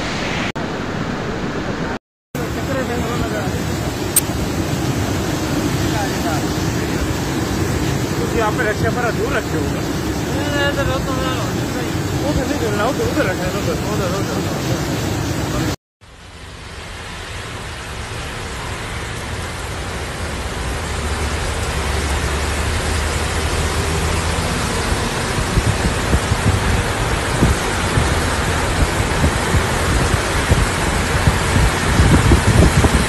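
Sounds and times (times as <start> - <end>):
heavy rain and rushing water: 0.0 - 33.0.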